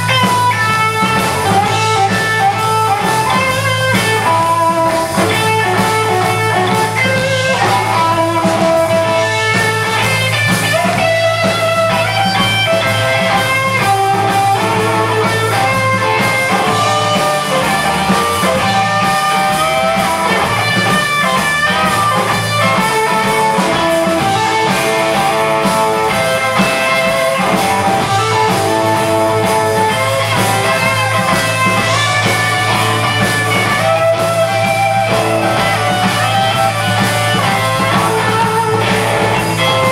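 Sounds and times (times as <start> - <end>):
bass line: 0.0 - 39.9
drums: 0.0 - 39.9
electric guitar lead lines: 0.0 - 39.9.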